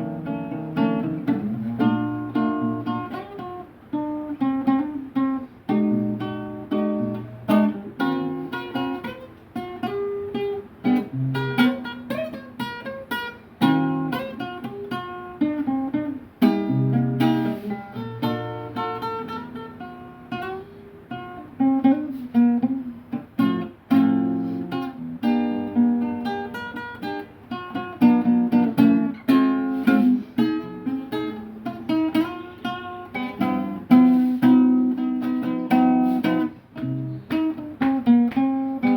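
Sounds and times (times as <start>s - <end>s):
guitar playing: 0.0s - 38.9s.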